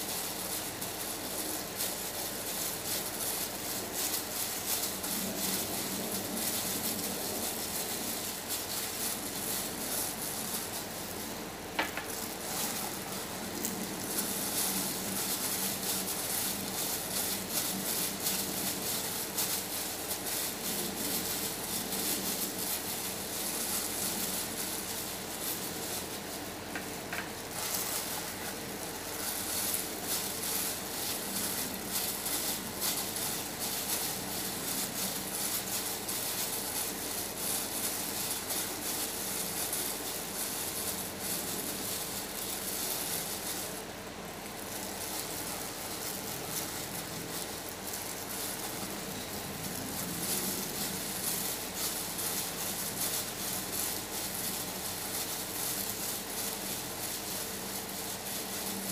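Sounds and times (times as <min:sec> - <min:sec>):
faint steady hum: 0:00.0 - 0:58.9
plastic glove crinkling: 0:00.0 - 0:58.9.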